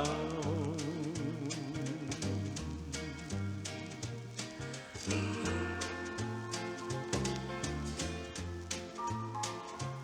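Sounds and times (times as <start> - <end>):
country-pop band instrumental: 0.0 - 10.0.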